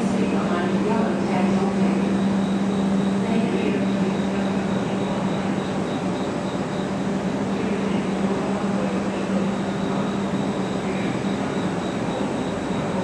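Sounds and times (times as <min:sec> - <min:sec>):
machinery and ventilation rumble: 0:00.0 - 0:13.0.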